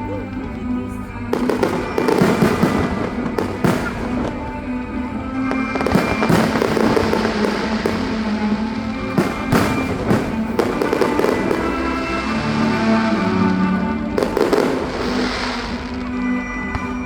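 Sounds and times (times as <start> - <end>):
fireworks bangs and crackles: 0.0 - 17.0
music with held tones: 0.0 - 17.0.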